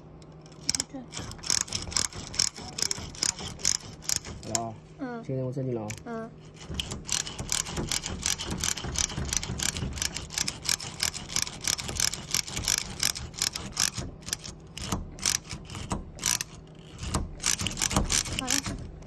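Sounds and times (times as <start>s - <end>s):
ratchet screwdriver clicking: 0.2s - 4.7s, 6.8s - 18.8s.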